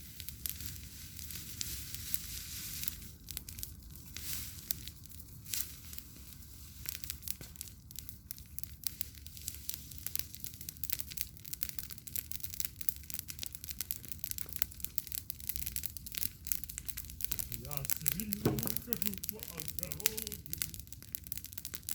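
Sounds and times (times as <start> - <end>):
bonfire crackling: 0.0 - 21.9.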